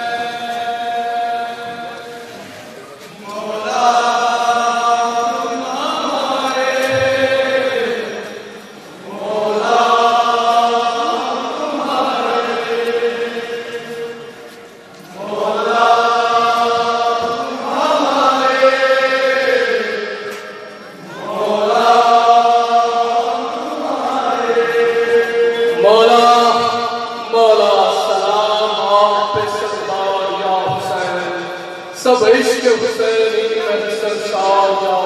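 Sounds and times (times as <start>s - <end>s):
men chanting a lament: 3.2s - 14.5s, 15.1s - 35.0s.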